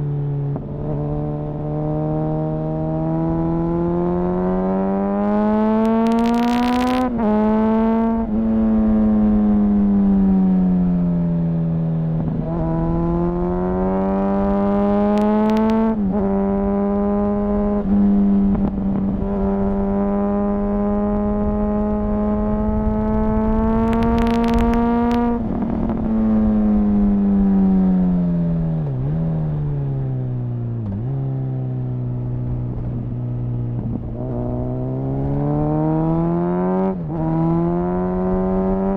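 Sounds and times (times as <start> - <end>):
motorcycle engine revving: 0.0 - 10.4, 11.9 - 38.9.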